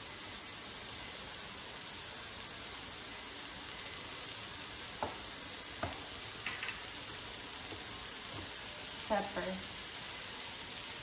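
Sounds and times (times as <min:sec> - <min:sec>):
carrots sizzling in a frying pan: 0:00.0 - 0:11.0.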